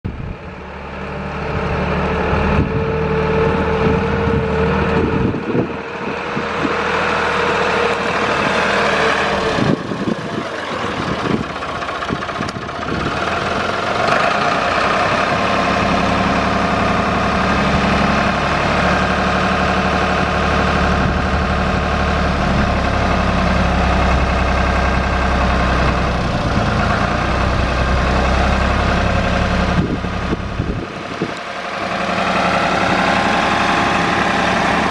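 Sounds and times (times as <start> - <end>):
forklift diesel engine running: 0.0 - 34.9.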